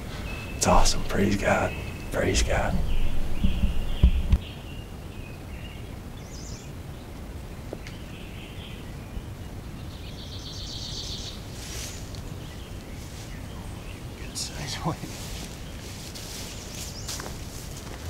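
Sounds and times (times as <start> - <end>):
low steady background hiss: 0.0 - 18.0
songbirds calling: 0.0 - 18.0.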